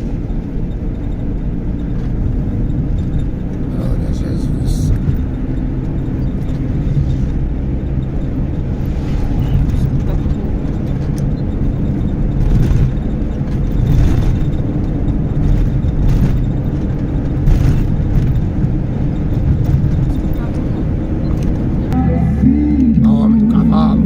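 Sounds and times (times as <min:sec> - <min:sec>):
car interior road and engine rumble: 0:00.0 - 0:24.0.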